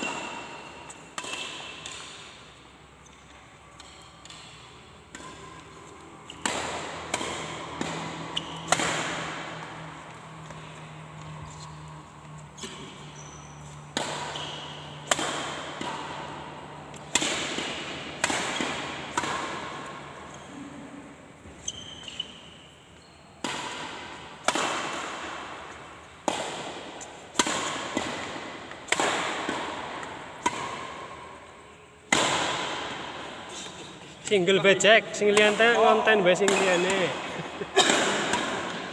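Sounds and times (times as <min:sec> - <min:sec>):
rackets hitting shuttlecock: 0:00.0 - 0:20.7, 0:23.4 - 0:38.9.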